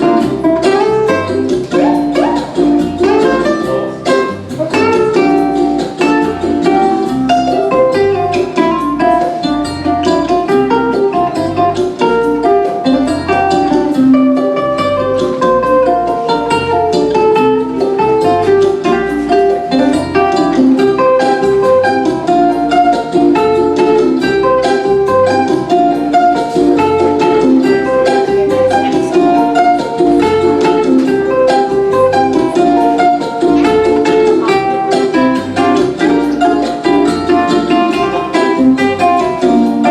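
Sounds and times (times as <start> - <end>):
backing track with pulsing bass: 0.0 - 39.9
ukulele fingerstyle melody: 0.0 - 39.9.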